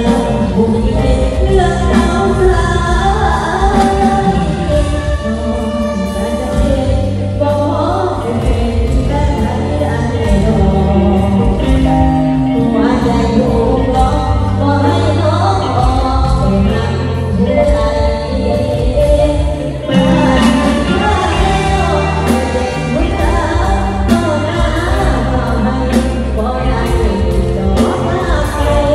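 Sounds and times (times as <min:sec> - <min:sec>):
girl singing into microphone: 0:00.0 - 0:28.9.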